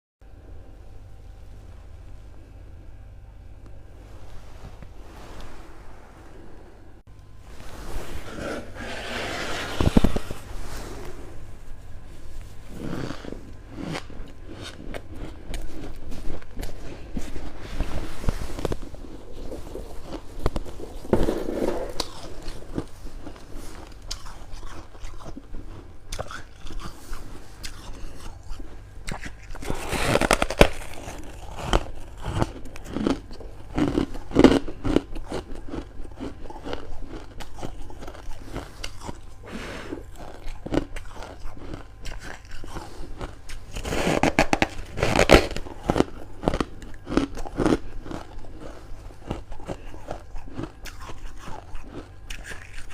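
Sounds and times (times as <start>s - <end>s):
crunchy chewing of frost: 7.5s - 52.9s.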